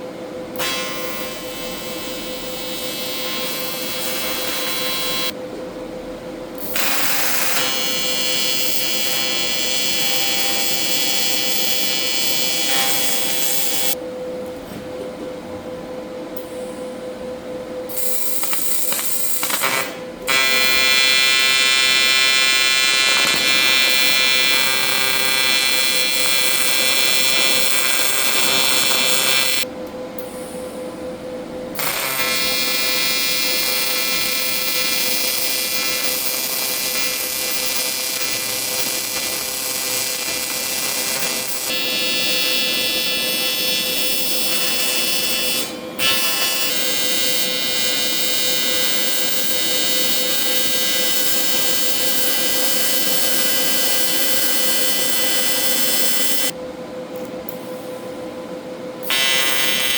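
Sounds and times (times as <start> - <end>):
welding arc buzzing and hissing: 0.6 - 5.4, 6.6 - 14.0, 17.9 - 29.7, 31.8 - 56.6, 59.0 - 59.9.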